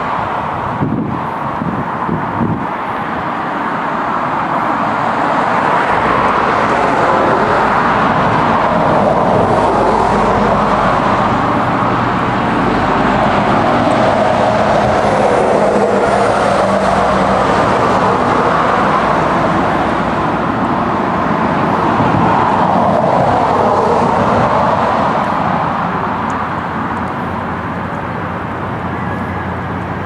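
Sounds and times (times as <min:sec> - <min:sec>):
rushing road noise: 0:00.0 - 0:30.0
vehicle engine hum: 0:00.0 - 0:30.0.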